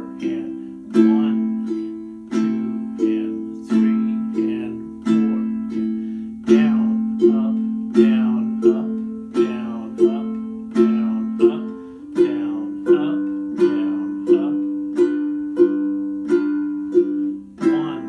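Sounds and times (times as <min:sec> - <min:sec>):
ukulele strumming: 0:00.0 - 0:18.0.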